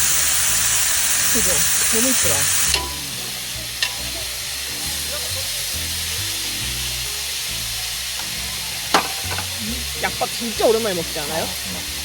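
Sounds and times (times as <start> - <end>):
background music with bass: 0.0 - 12.0
meat sizzling on a grill: 0.0 - 12.0.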